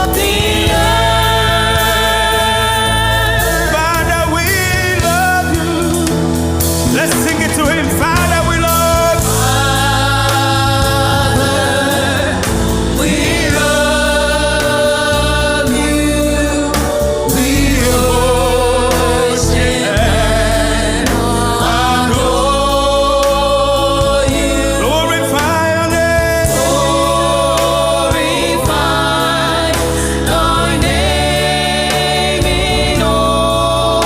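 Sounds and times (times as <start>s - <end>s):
band instrumental backing: 0.0s - 34.0s
gospel choir singing: 0.0s - 34.0s.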